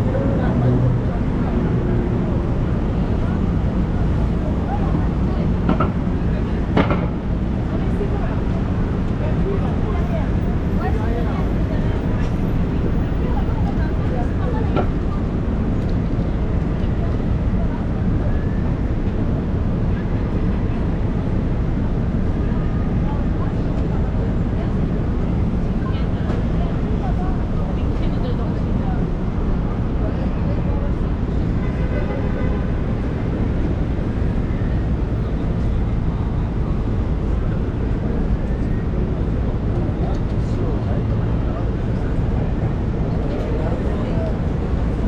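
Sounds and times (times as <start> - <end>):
faint indistinct voices: 0.0 - 45.0
low rumble of traffic: 0.0 - 45.0.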